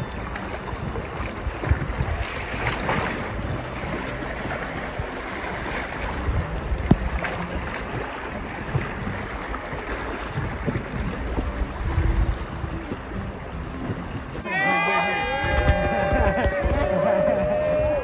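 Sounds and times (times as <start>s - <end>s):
paddle splashes: 0.0s - 18.0s
river current rushing against raft: 0.0s - 18.0s
wind buffeting microphone: 0.0s - 18.0s.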